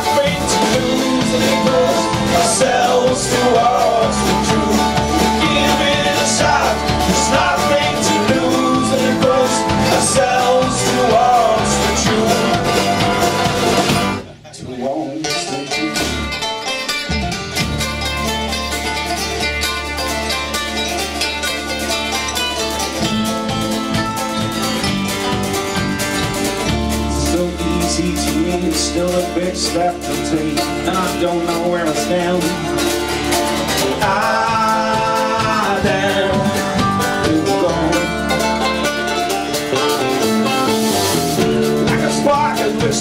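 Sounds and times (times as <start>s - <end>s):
strummed acoustic guitar: 0.0s - 14.3s, 15.2s - 43.0s
banjo picking quick notes: 0.0s - 14.4s, 15.1s - 43.0s
low bass notes: 0.0s - 14.5s, 15.7s - 43.0s.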